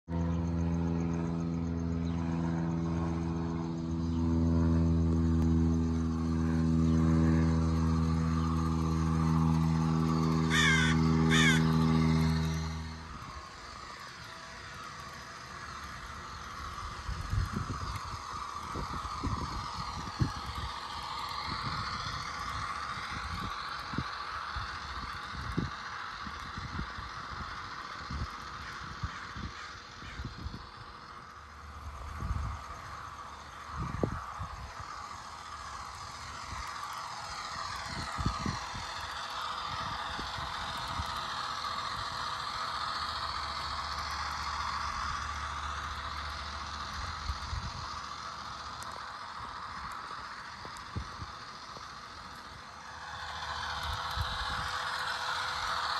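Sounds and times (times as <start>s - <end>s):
model train motor whine: 0.0s - 55.9s
wheel noise on rails: 0.0s - 55.9s.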